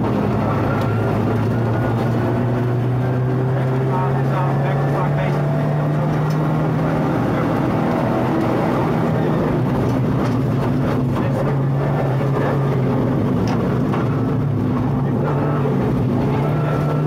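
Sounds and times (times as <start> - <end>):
rally car engine running hard: 0.0 - 17.0.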